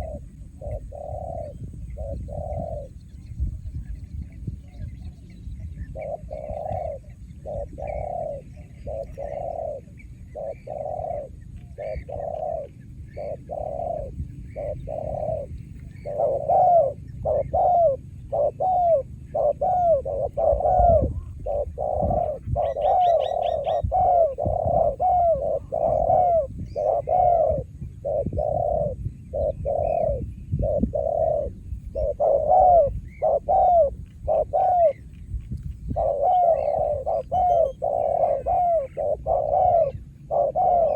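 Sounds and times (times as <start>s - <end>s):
doves cooing: 0.0s - 40.9s
small bird chirping: 0.0s - 40.9s.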